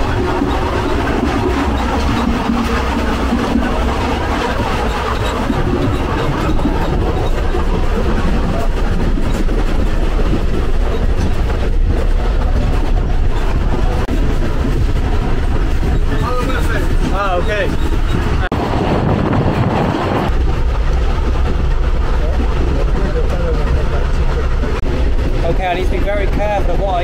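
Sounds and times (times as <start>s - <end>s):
train running noise inside carriage: 0.0s - 27.0s.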